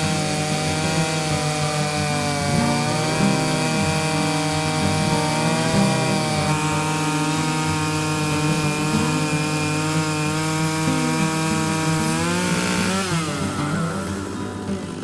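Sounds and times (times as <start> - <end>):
chainsaw cutting log: 0.0 - 15.0.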